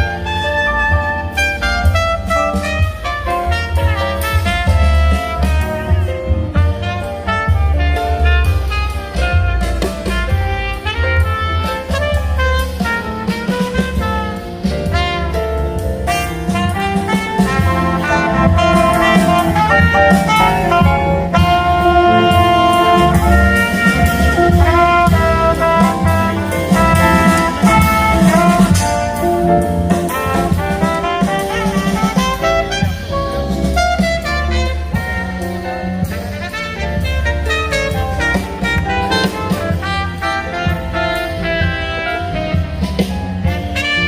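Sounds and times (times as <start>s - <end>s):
bass: 0.0s - 44.0s
drum kit: 0.0s - 44.0s
jazzy horn melody: 0.0s - 44.0s.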